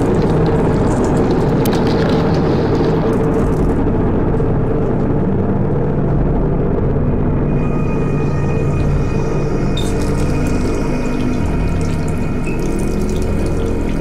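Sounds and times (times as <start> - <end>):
low droning rumble: 0.0 - 14.0.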